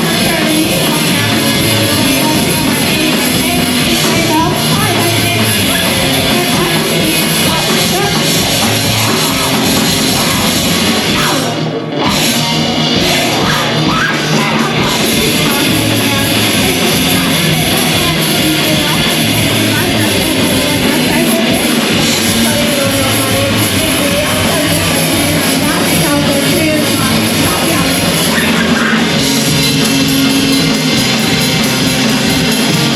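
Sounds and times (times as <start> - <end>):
live rock band playing: 0.0 - 32.9.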